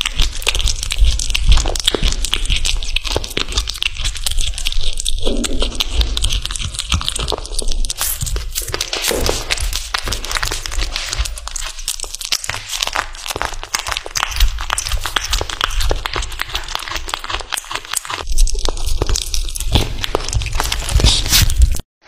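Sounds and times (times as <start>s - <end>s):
kitten chewing raw meat: 0.0s - 21.8s.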